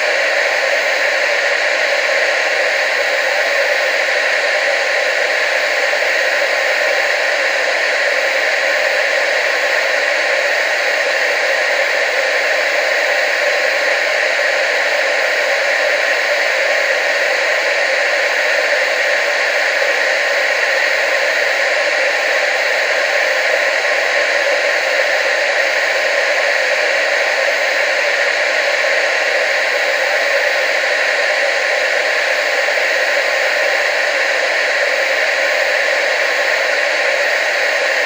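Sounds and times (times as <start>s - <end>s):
television static hiss: 0.0s - 38.0s.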